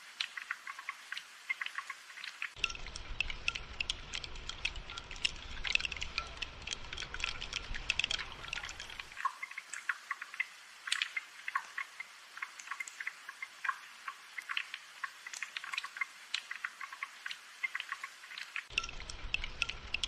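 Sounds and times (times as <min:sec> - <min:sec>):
rain dripping and ticking: 0:00.0 - 0:20.0.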